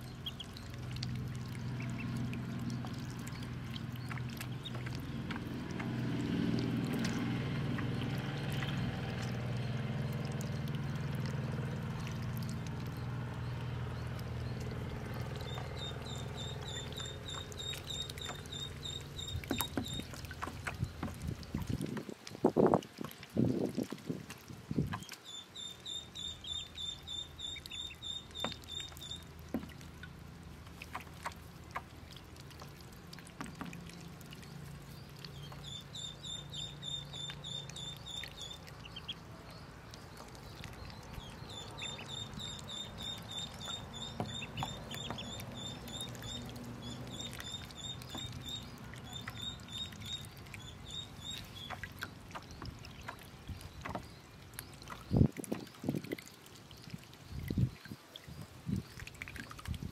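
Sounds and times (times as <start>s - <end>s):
ducklings peeping: 0.0s - 21.8s, 24.8s - 32.8s, 33.4s - 55.8s
splashing in shallow water: 0.0s - 59.9s.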